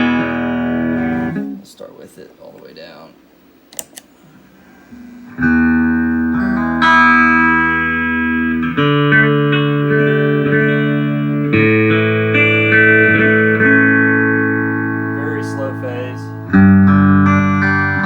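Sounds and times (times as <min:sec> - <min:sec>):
phased electric guitar chords: 0:00.0 - 0:01.6, 0:04.8 - 0:18.0.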